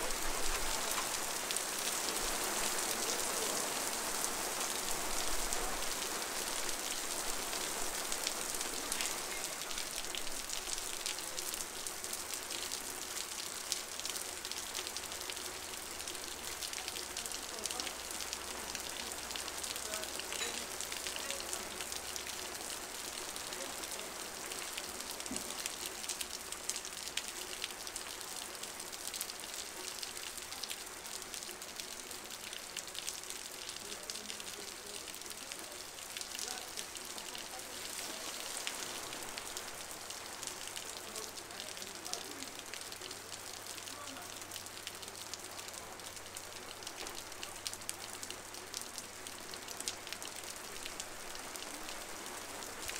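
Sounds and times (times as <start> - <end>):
heavy rain on a street: 0.0 - 52.9.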